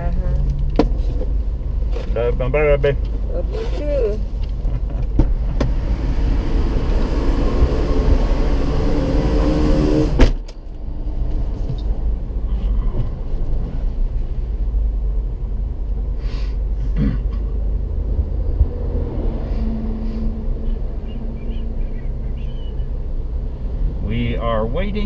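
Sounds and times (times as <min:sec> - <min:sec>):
low car rumble: 0:00.0 - 0:25.0
street traffic: 0:00.0 - 0:25.0.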